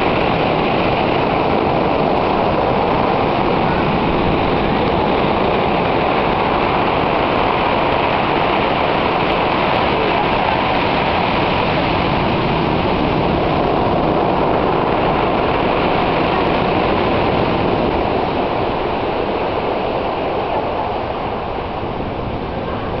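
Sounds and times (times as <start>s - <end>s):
surf breakers crashing: 0.0s - 23.0s.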